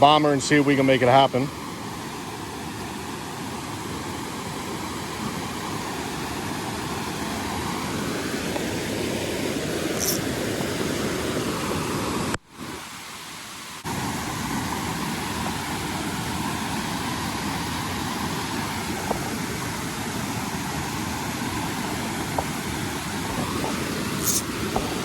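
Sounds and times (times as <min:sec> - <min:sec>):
waterfall and creek rushing: 0:00.0 - 0:25.0.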